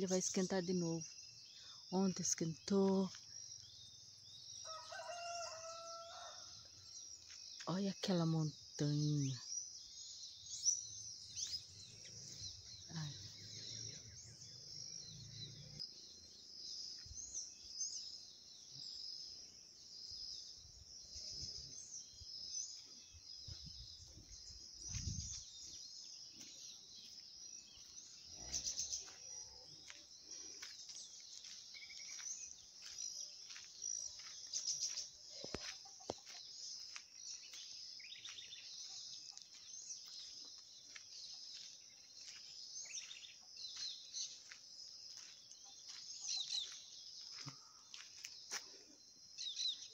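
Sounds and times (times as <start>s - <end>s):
birds chirping and calling: 0.0s - 49.9s
chorus of insects: 0.0s - 49.9s.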